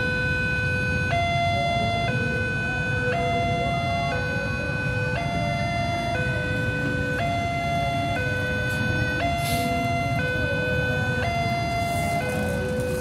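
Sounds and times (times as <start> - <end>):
diesel locomotive engine rumble: 0.0 - 13.0
two-tone electronic siren: 0.0 - 13.0.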